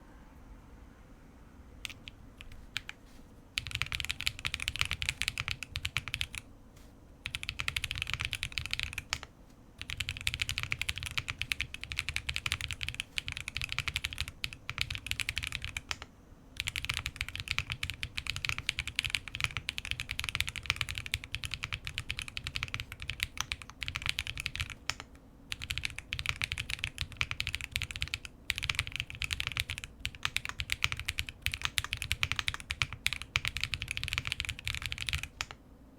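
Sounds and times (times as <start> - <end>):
mechanical keyboard typing: 1.8 - 3.0, 3.6 - 6.5, 7.2 - 35.6.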